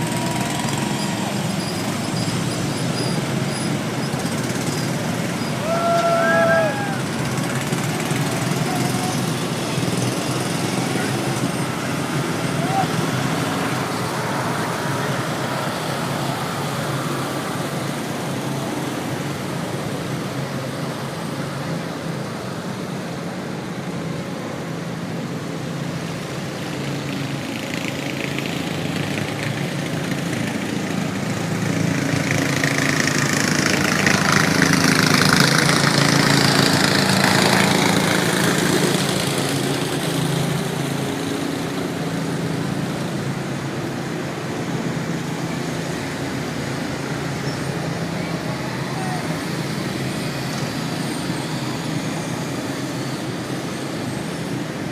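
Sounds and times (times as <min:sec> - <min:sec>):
small engines of lawn mowers passing: 0:00.0 - 0:54.9.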